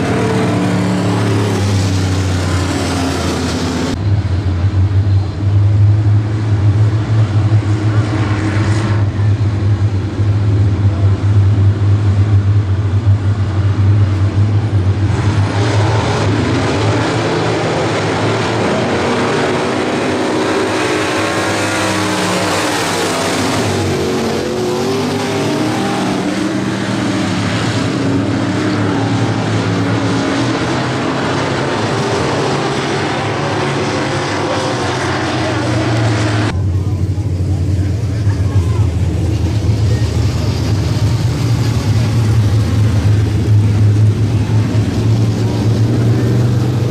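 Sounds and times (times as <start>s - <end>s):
race car engines revving: 0.0s - 46.9s.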